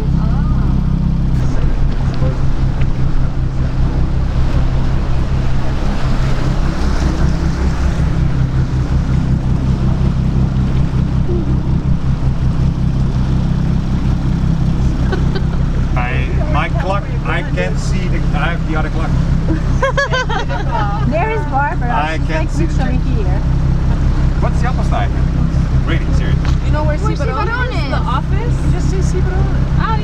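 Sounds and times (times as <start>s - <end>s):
boat engine droning: 0.0s - 30.0s
water wash: 0.0s - 30.0s.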